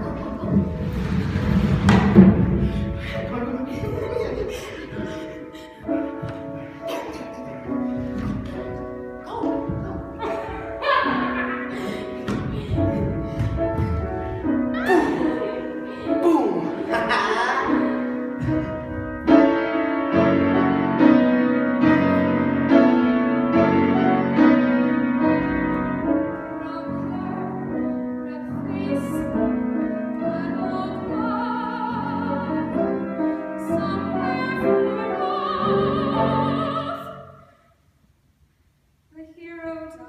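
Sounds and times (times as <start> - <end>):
grand piano accompaniment: 0.0 - 37.6.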